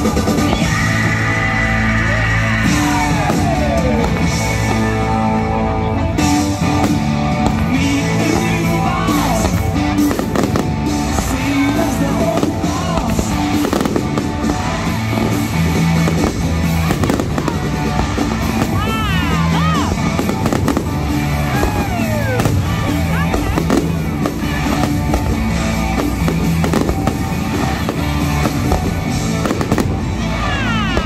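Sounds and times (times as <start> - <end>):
firework bangs and crackling: 0.0 - 31.0
loud music: 0.0 - 31.0.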